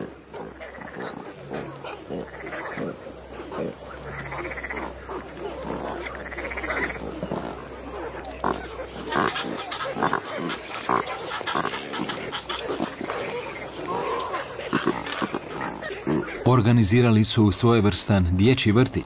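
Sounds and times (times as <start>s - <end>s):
pelicans calling: 0.0s - 19.0s.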